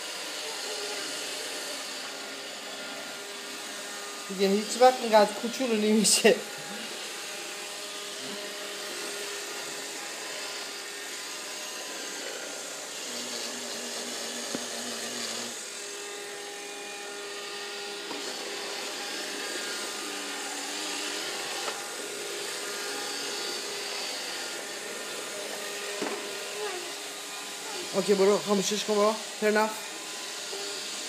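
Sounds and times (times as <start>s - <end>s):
robot vacuum whirring: 0.0s - 31.0s.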